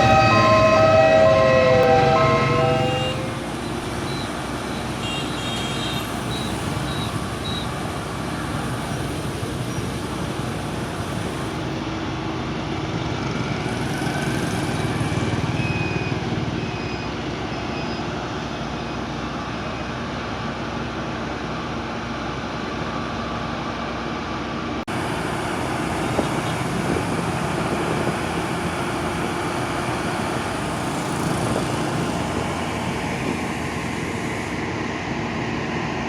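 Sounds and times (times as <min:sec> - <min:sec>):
street traffic rumble: 0:00.0 - 0:36.0.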